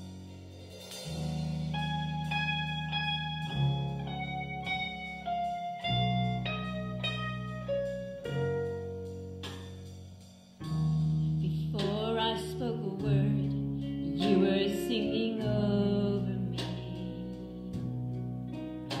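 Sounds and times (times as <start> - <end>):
bass and keyboard chords: 0.0 - 19.0
electric guitar melody: 0.0 - 19.0.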